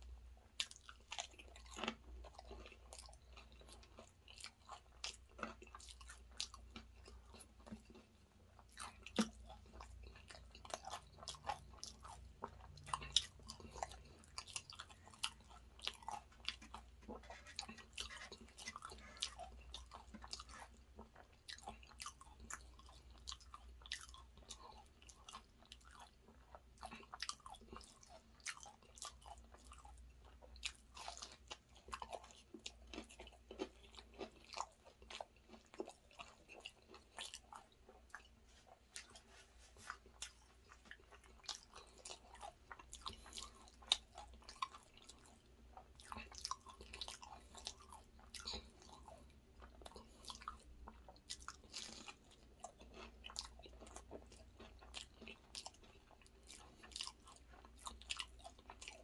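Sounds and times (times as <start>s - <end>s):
close-up chewing: 0.0s - 59.0s
pastry crunching: 0.6s - 26.1s, 30.6s - 59.0s.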